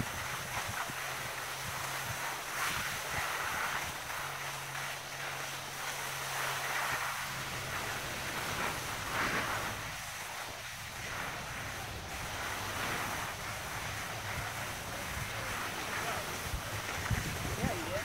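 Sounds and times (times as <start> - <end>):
skis scraping on packed snow: 0.0 - 18.0
wind on microphone: 0.0 - 18.0.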